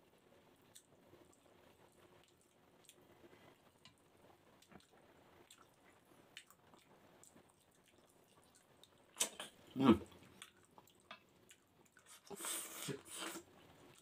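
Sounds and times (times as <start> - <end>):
quiet chewing: 0.2 - 14.0.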